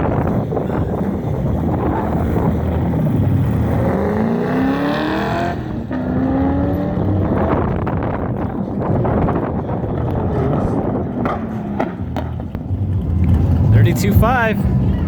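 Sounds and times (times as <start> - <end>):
truck engine accelerating hard: 0.0 - 15.0.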